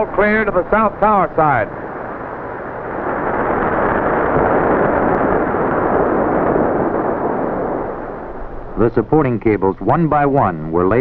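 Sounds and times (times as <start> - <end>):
dull rushing noise: 0.0 - 11.0.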